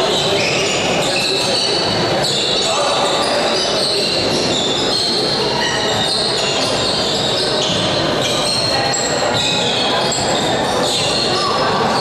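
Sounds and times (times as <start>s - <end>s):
din of voices in hall: 0.0s - 12.0s.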